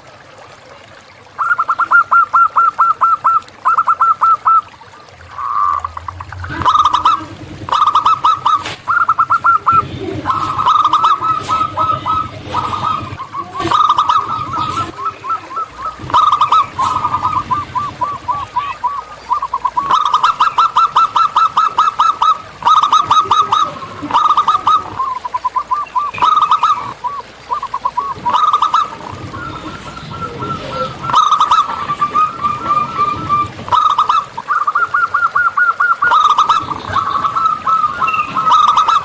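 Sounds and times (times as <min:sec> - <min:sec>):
doves cooing: 0:00.0 - 0:39.0.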